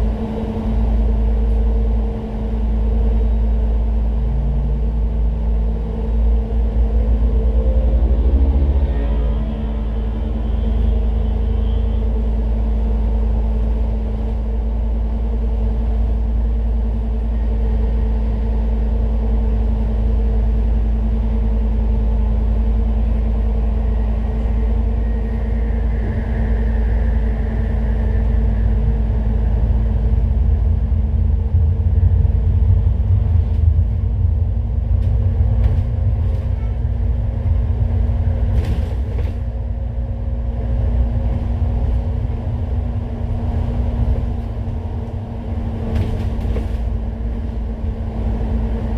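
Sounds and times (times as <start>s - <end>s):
bus engine and road rumble: 0.0s - 48.9s
constant drone: 0.0s - 48.9s.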